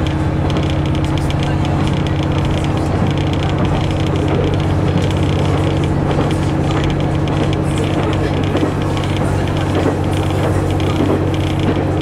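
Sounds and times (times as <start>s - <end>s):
diesel engine drone: 0.0s - 12.0s
wheels on rail: 0.0s - 12.0s.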